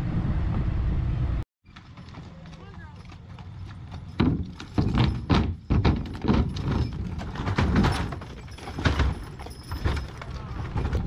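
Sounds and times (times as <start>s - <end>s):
hooves clomping on wooden planks: 1.7s - 11.0s.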